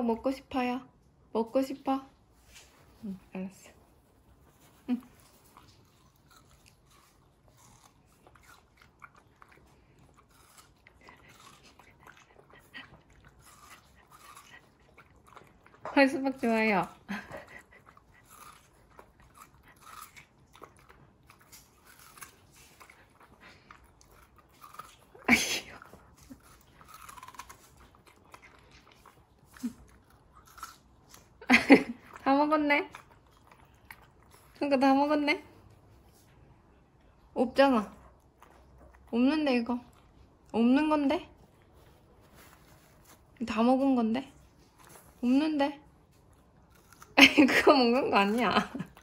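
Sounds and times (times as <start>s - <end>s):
dog chewing watermelon: 4.3s - 36.3s, 37.6s - 49.0s.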